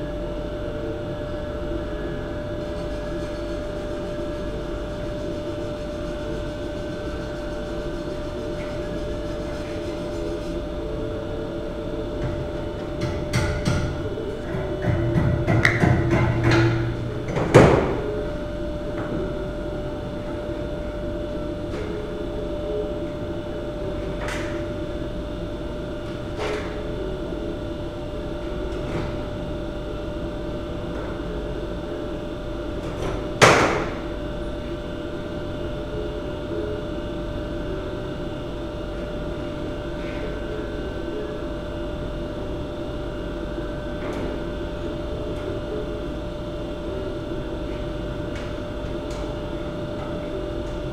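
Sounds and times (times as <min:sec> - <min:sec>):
steady hum: 0:00.0 - 0:50.9.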